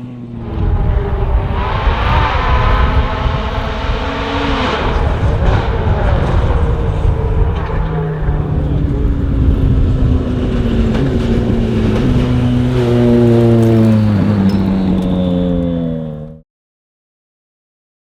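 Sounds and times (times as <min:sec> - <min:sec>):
rally car driving at speed: 0:00.0 - 0:16.4.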